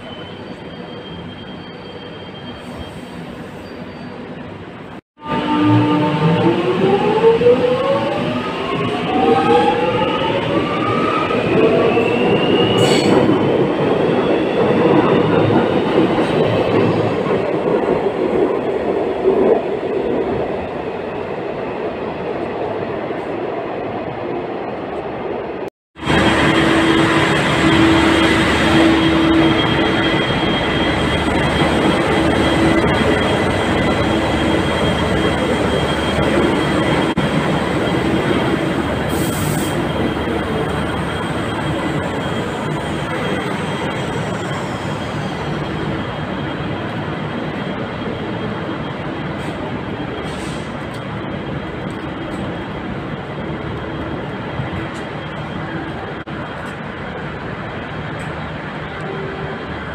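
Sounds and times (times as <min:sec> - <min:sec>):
train rumbling with whine: 0:00.0 - 0:59.9.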